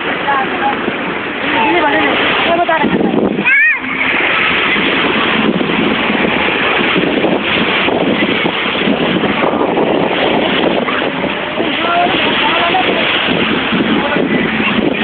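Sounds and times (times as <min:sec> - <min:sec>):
waves washing: 0:00.0 - 0:15.0
wind on microphone: 0:00.0 - 0:15.0.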